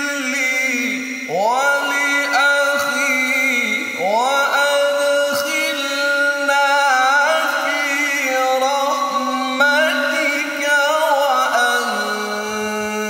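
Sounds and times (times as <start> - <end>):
man reciting in melodic chant: 0.0 - 13.0.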